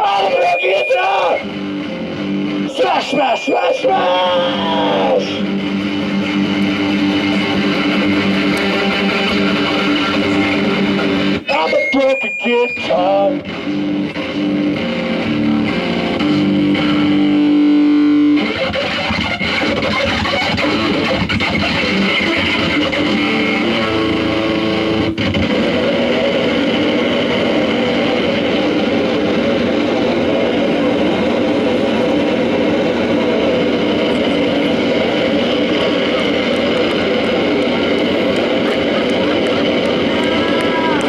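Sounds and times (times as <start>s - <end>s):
distorted electric guitar noise: 0.0s - 41.0s.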